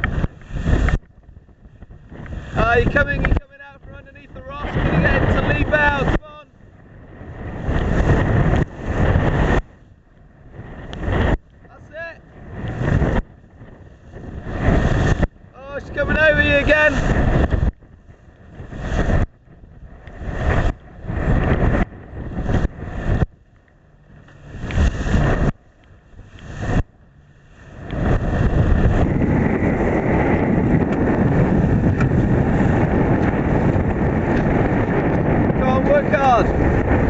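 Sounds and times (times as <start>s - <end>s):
rush of wind and spray: 0.0s - 37.0s
wind buffeting microphone: 0.0s - 37.0s.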